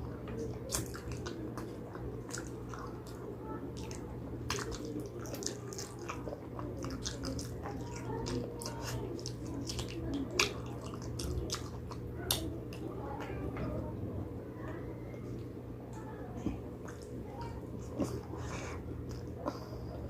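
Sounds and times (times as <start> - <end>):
steady low hum: 0.0 - 20.0
wet chewing and lip-smacking: 0.3 - 13.4, 16.5 - 19.8.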